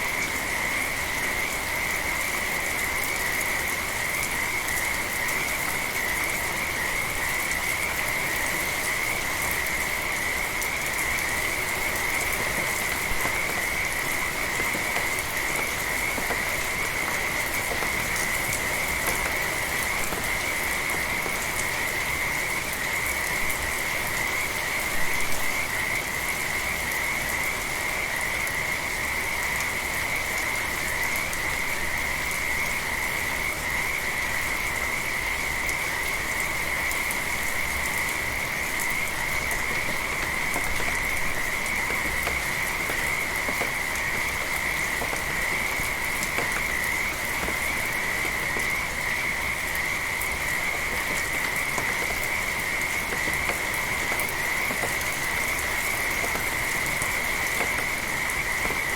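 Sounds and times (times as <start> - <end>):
gentle rain: 0.0 - 58.9.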